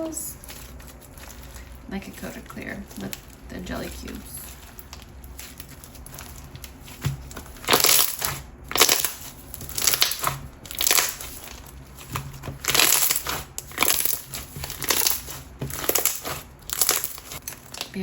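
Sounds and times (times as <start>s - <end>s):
slime squelching by hand: 0.0s - 18.0s.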